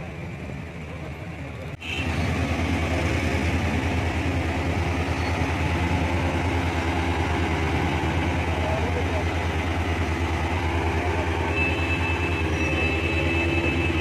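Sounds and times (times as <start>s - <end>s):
fire engine idling: 0.0s - 14.0s
street noise: 0.0s - 14.0s.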